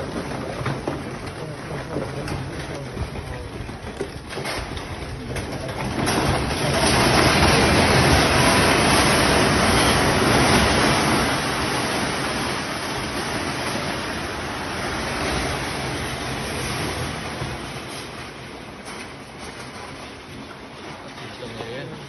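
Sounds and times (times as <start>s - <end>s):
landslide rushing and crumbling: 0.0s - 22.0s.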